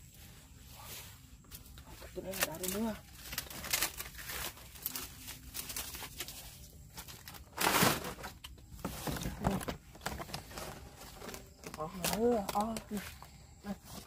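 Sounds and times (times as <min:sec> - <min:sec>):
dry leaves crackling and rustling: 0:00.0 - 0:13.2.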